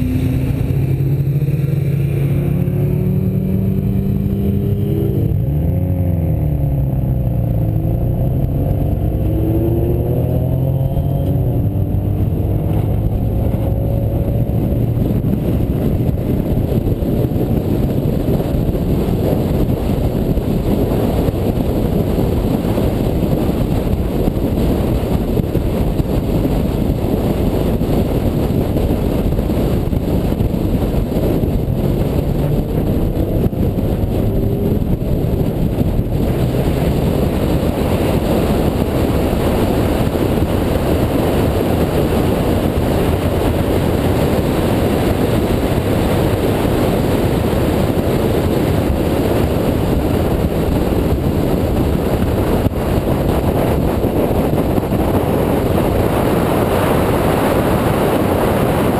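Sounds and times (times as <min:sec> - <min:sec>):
car engine: 0:00.0 - 0:58.9
wind and road noise: 0:00.0 - 0:58.9.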